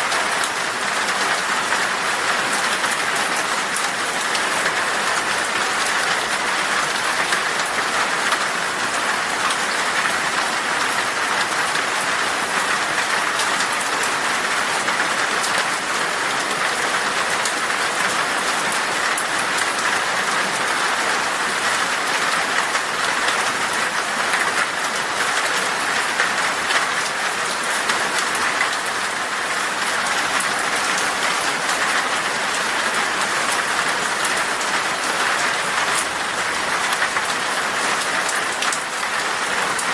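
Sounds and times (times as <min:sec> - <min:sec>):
heavy rain on glass: 0:00.0 - 0:39.9.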